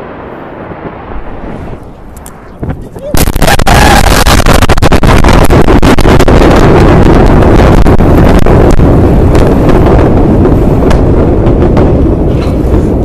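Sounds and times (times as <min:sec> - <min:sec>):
explosion blast roar: 0:00.0 - 0:13.0
rapid crackling: 0:00.8 - 0:13.0.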